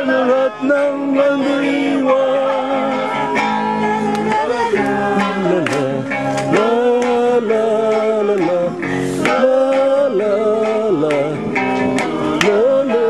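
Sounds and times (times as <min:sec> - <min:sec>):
acoustic guitar: 0:00.0 - 0:13.0
person singing: 0:00.0 - 0:13.0.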